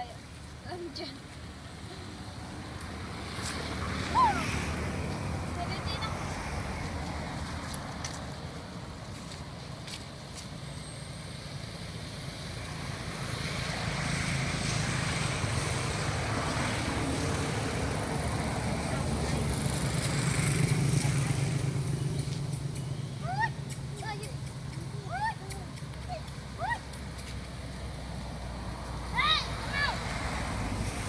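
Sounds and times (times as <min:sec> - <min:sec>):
motor vehicle rumble: 0:00.0 - 0:31.0.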